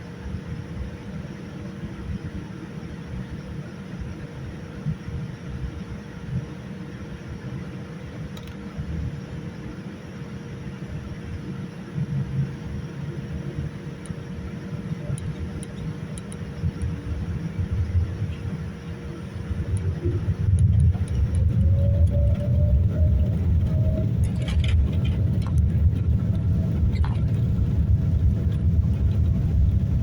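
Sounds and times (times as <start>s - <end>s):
airliner cabin engine rumble: 0.0s - 30.0s
faint constant hum: 0.0s - 30.0s.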